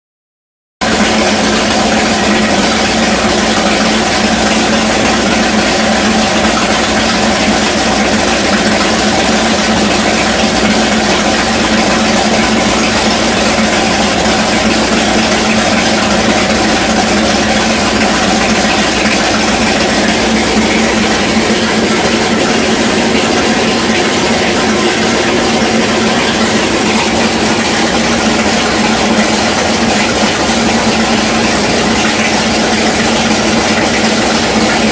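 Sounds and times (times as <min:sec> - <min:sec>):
boat engine idling loudly: 0:00.8 - 0:34.9.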